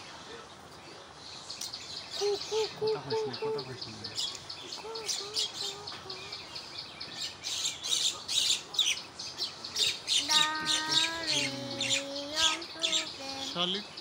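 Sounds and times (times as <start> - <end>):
birds chattering and squawking: 0.4 - 14.0.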